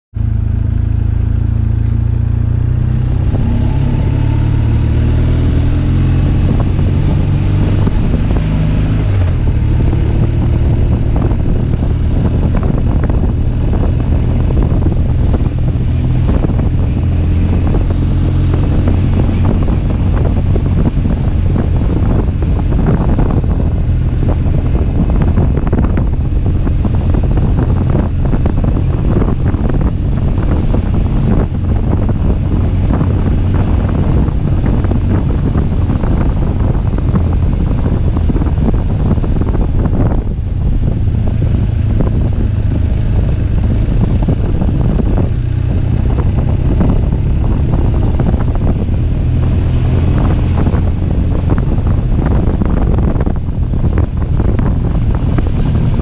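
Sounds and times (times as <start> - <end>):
wind buffeting microphone: 0.3 - 56.0.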